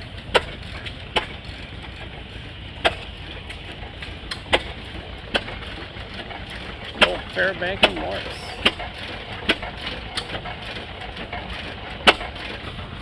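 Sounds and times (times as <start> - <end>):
gas engine exhaust pops: 0.0 - 13.0
low engine rumble: 0.0 - 13.0.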